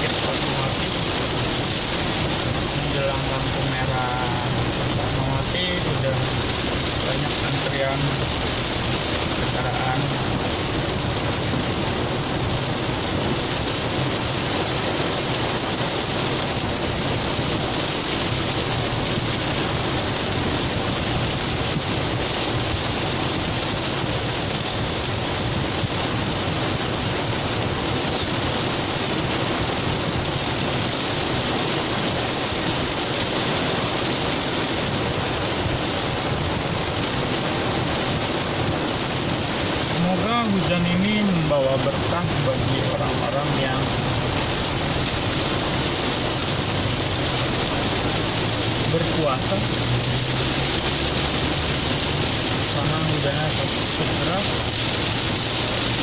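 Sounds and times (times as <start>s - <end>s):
heavy rain on car roof: 0.0s - 56.0s
low engine hum: 0.0s - 56.0s.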